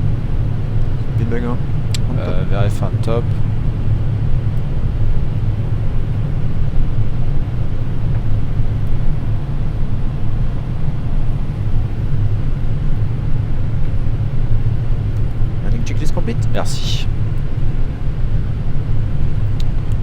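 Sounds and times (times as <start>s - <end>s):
airflow over aircraft: 0.0s - 20.0s
jet engines at approach power: 0.0s - 20.0s.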